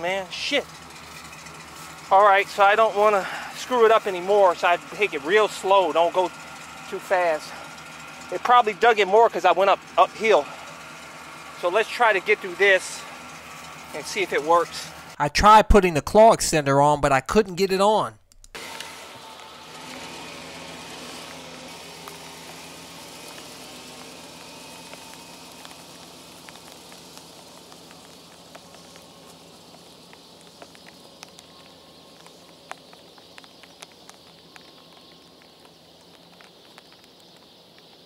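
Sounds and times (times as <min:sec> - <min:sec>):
van engine running: 0:00.0 - 0:17.0, 0:18.6 - 0:38.0.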